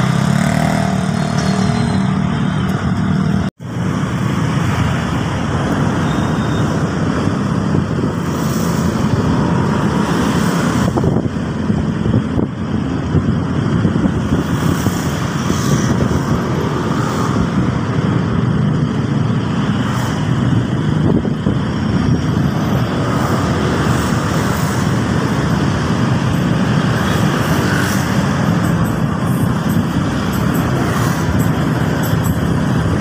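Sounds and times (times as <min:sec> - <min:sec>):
cars and motorcycles passing: 0:00.0 - 0:33.0.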